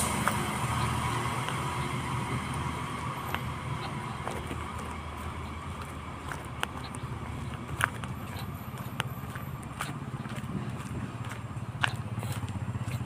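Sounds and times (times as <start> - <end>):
footsteps on concrete: 0.0 - 13.0
steady low rumble: 0.0 - 13.0.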